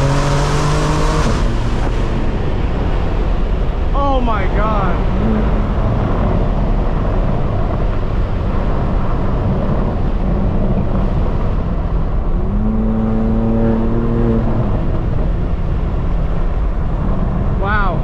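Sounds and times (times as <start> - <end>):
loud car exhaust rumble: 0.0 - 18.0.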